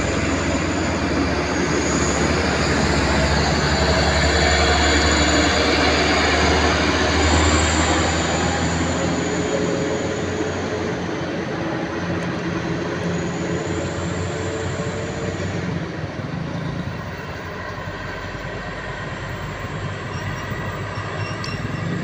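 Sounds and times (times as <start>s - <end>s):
heavy trucks passing: 0.0s - 22.0s
tyre and road noise: 0.0s - 22.0s.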